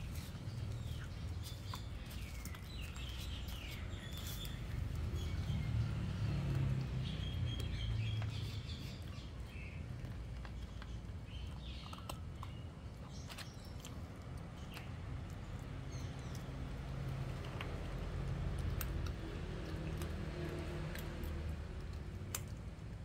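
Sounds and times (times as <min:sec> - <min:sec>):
birds chirping faintly: 0:00.0 - 0:23.0
puppy crunching bones: 0:00.0 - 0:23.0.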